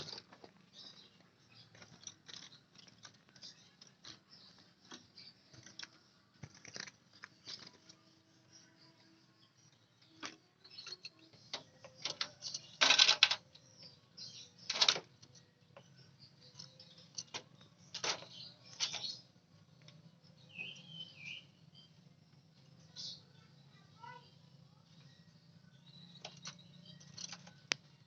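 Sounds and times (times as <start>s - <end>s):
bird chirps: 0.0s - 28.0s.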